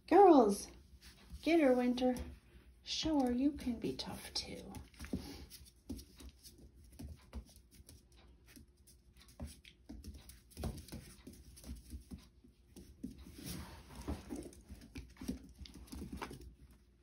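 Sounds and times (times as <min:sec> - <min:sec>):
puppies scuffling: 0:00.1 - 0:17.0.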